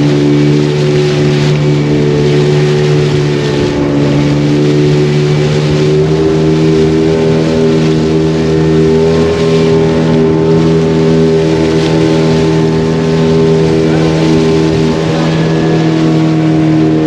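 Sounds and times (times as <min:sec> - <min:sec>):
boat motor droning: 0:00.0 - 0:17.0
water rushing along hull: 0:00.0 - 0:17.0.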